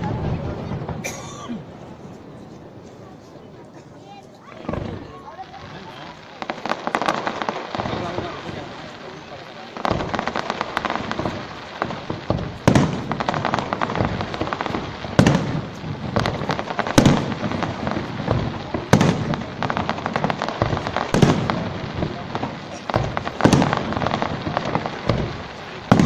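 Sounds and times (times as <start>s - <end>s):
firework bangs: 0.0s - 3.6s, 4.4s - 26.0s
firework crackling: 0.0s - 26.0s.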